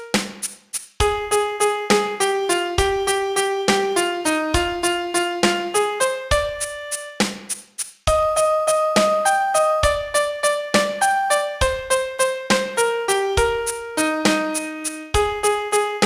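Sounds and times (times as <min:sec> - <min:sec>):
piano melody: 0:00.0 - 0:00.2, 0:01.0 - 0:07.3, 0:08.1 - 0:16.0.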